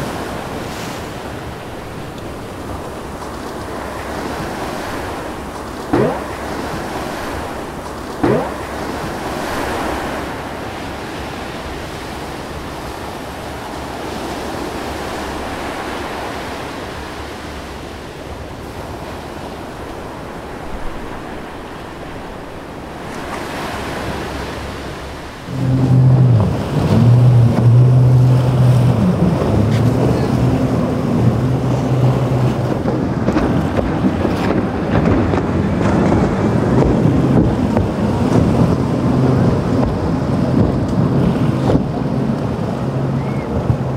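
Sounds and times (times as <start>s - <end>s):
boat engine drone: 0.0s - 43.9s
waves: 0.0s - 43.9s
wind on microphone: 0.0s - 43.9s.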